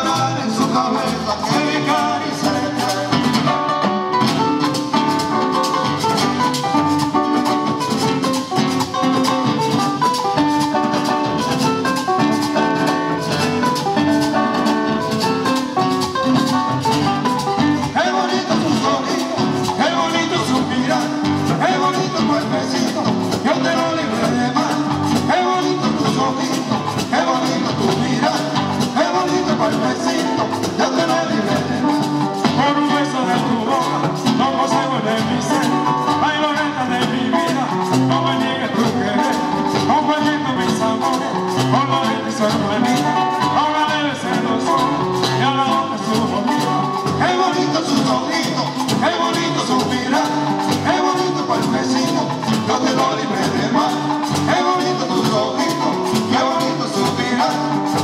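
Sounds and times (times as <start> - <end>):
acoustic guitars strumming: 0.0 - 58.0
maracas shaking: 0.0 - 58.0.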